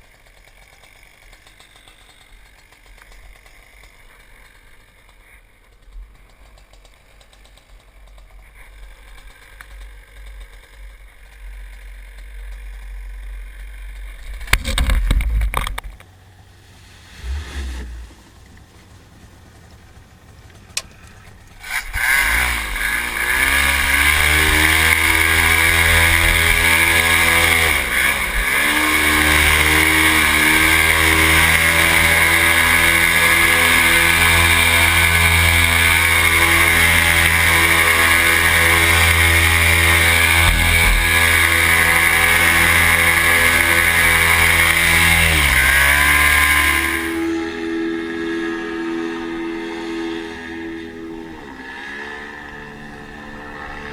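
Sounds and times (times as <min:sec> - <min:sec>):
paramotor engine droning: 0:00.0 - 0:53.9.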